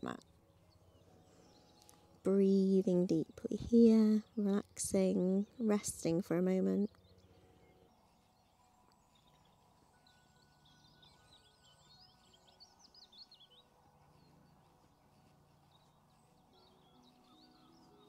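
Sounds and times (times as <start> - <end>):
faint birdsong warbling chirps: 0.0 - 18.0.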